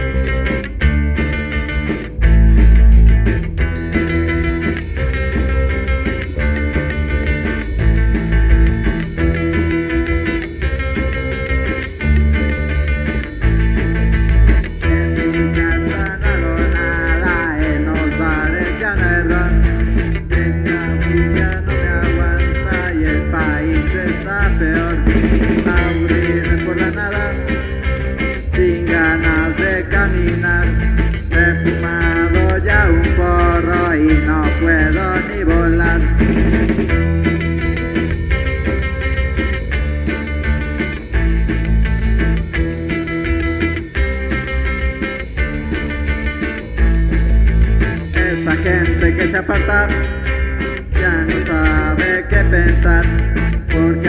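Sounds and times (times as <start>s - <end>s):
electric guitar lead: 0.0s - 54.0s
punk rock band playing: 0.0s - 54.0s.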